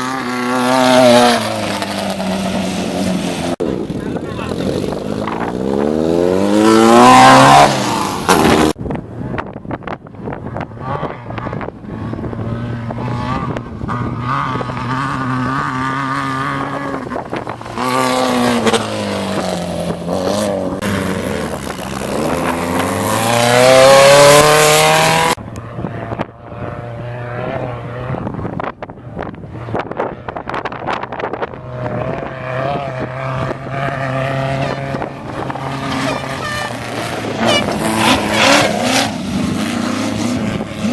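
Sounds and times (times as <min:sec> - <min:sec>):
buggy engines revving hard: 0:00.0 - 0:40.9.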